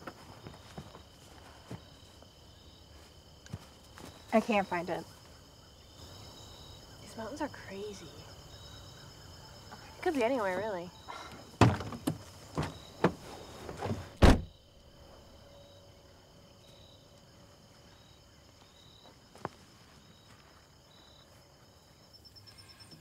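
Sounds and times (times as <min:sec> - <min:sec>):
insect chirring: 0:00.0 - 0:23.0.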